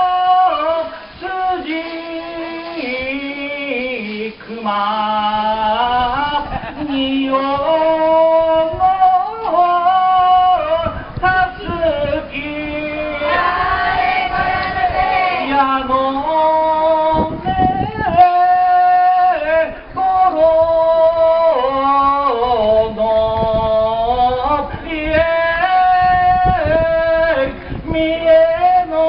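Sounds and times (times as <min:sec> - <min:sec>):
person singing slow song: 0:00.0 - 0:29.0
rough noise: 0:00.0 - 0:29.0.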